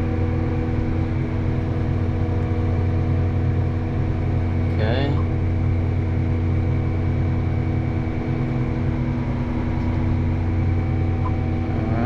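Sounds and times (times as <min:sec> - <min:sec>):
fans and hydraulic drives humming: 0:00.0 - 0:12.0
tractor engine running: 0:00.0 - 0:12.0.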